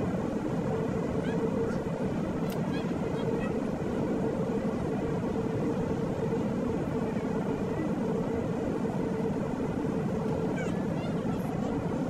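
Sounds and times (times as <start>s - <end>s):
jet airliner cabin noise: 0.0s - 12.0s.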